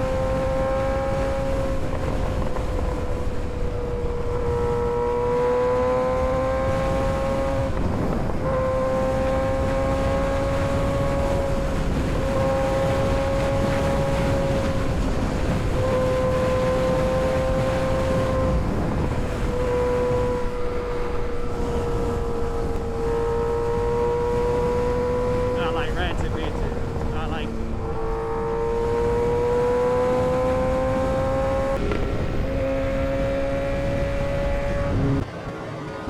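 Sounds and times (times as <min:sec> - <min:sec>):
motorcycle engine at high revs: 0:00.0 - 0:35.3
wind rumble on microphone: 0:00.0 - 0:36.0.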